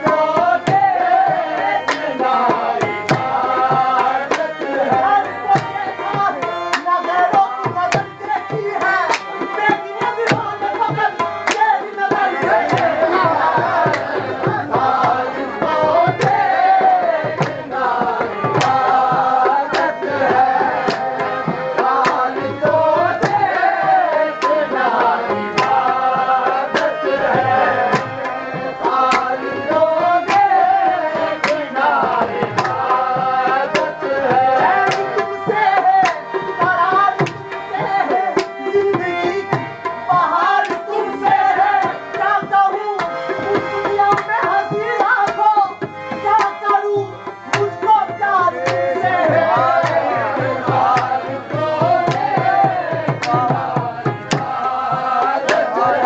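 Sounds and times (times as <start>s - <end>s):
harmonium chords: 0.0s - 56.0s.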